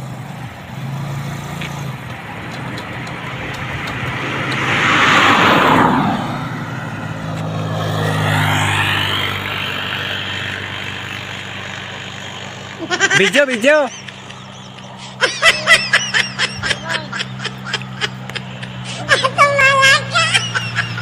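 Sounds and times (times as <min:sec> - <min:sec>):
car passing by: 0:00.0 - 0:19.5
low engine hum: 0:00.0 - 0:21.0.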